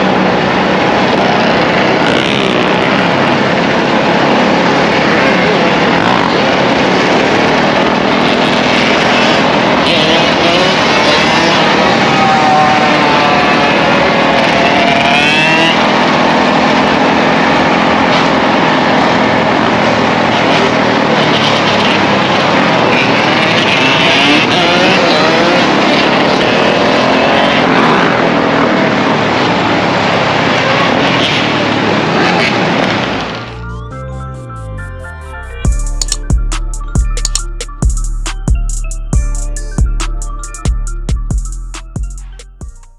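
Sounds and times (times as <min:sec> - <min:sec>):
dirt bike engines revving: 0:00.0 - 0:34.0, 0:35.6 - 0:42.7.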